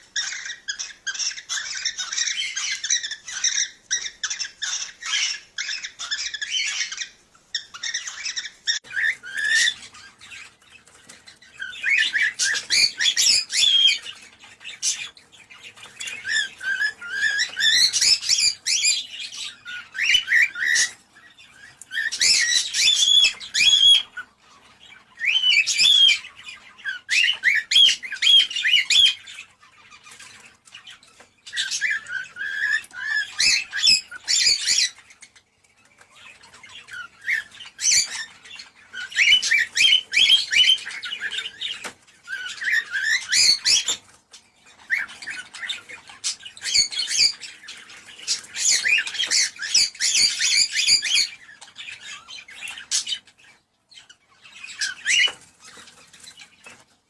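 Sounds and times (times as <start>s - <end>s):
cockatiels chirping and squawking: 0.0s - 57.0s.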